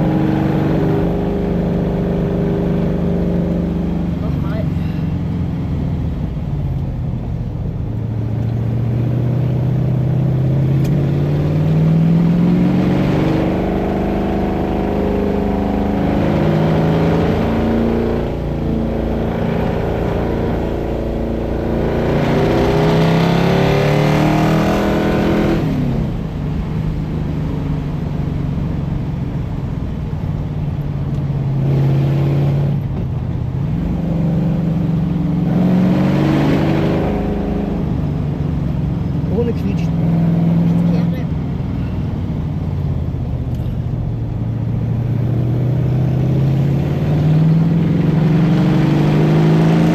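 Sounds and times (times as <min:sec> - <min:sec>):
engine revving under acceleration: 0:00.0 - 0:49.9.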